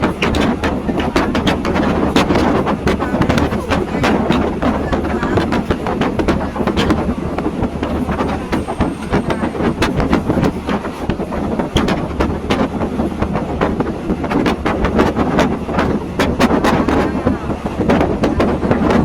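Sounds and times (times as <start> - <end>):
train wheels rumbling on track: 0.0 - 19.0
wheels and carriage clicking: 0.0 - 19.0.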